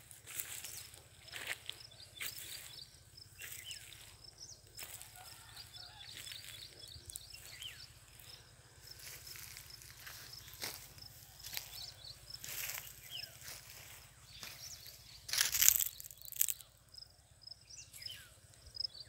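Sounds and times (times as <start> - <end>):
footsteps crunching on mulch: 0.0 - 16.7
small birds chirping: 0.0 - 19.0.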